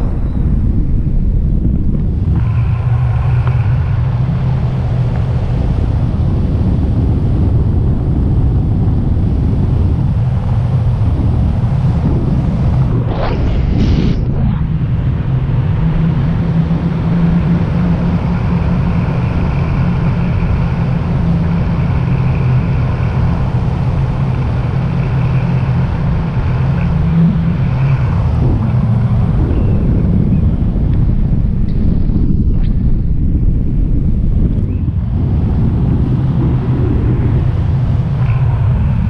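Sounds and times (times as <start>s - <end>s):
low steady hum: 0.0s - 39.0s
wind buffeting microphone: 0.0s - 39.0s.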